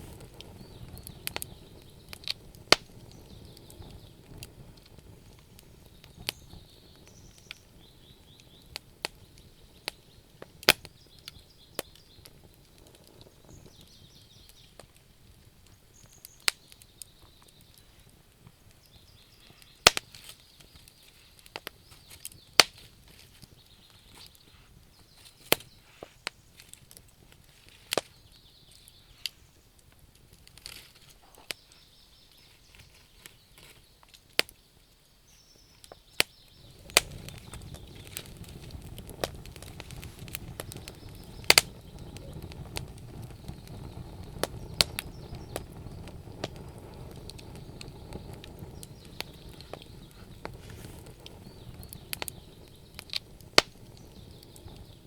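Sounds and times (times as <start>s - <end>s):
burning wood crackling: 0.0s - 55.0s.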